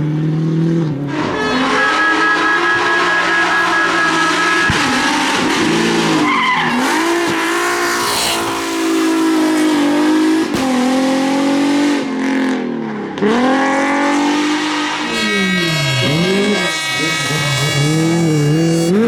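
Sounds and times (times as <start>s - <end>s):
rally car engine under hard throttle: 0.0s - 19.0s.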